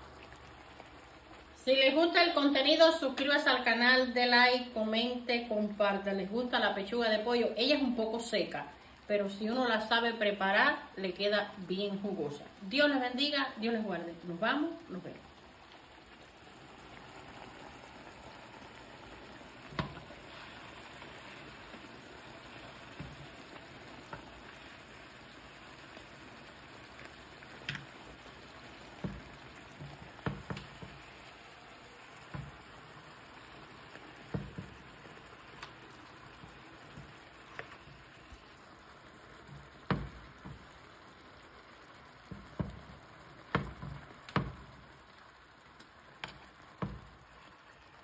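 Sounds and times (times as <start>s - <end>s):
chicken sizzling in oil: 0.0s - 48.0s.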